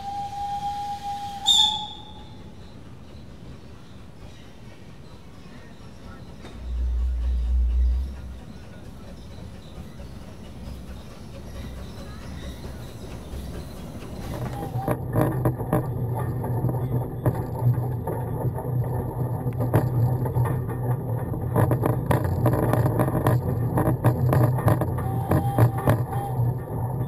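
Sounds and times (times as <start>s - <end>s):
train clicks and knocks: 0.0s - 27.0s
train hum: 0.0s - 27.0s.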